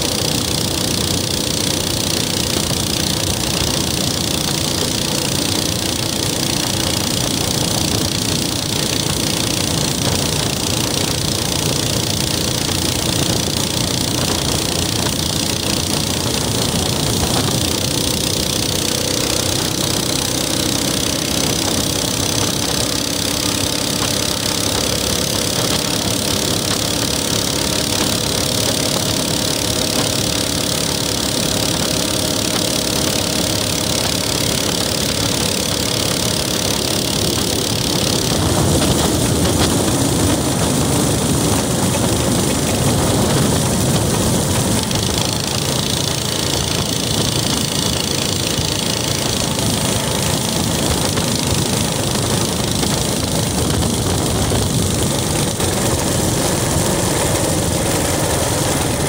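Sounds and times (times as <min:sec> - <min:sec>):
minibike engine running: 0:00.0 - 0:59.0
road noise: 0:00.0 - 0:59.0.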